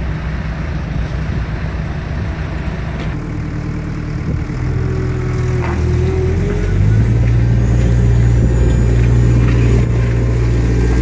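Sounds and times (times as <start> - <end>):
diesel engine idling: 0.0 - 11.0
excavator engine idling: 0.0 - 11.0.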